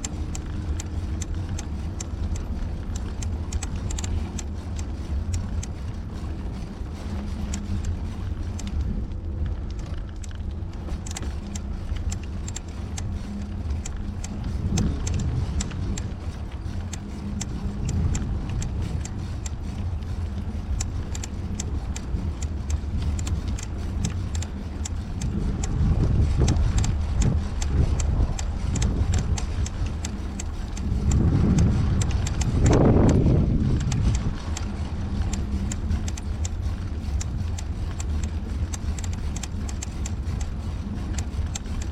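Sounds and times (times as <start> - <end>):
bicycle rattles and clicks: 0.0 - 41.9
wind rumbling on microphone: 0.0 - 41.9.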